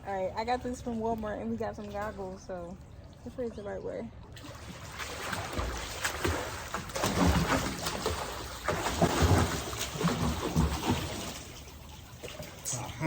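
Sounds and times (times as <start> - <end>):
water sloshing against microphone: 0.0 - 13.0.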